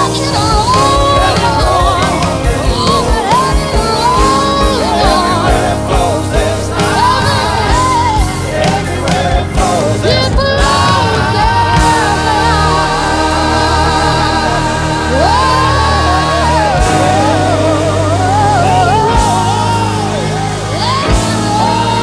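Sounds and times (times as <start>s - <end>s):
live worship band music: 0.0s - 22.0s
person singing: 0.0s - 22.0s.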